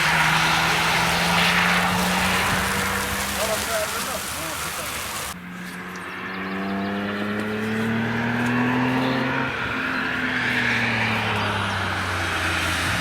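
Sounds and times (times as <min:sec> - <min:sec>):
tyres hissing on wet road: 0:00.0 - 0:05.4, 0:07.5 - 0:13.0
car engine accelerating past: 0:00.0 - 0:13.0.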